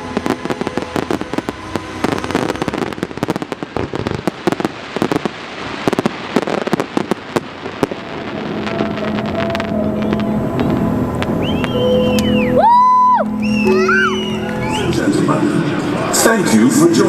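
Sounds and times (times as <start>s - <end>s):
fireworks popping and crackling: 0.0s - 17.0s.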